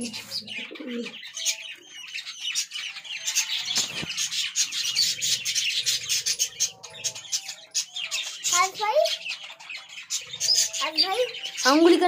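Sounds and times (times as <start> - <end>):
budgies chirping: 0.0 - 12.0.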